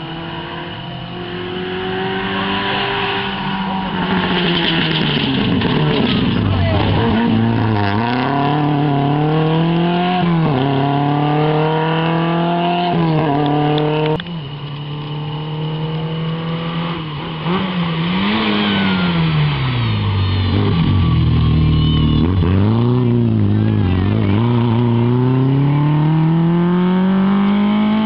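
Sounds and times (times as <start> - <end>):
rally car engine revving: 0.0 - 28.0
second rally car approaching: 0.0 - 28.0.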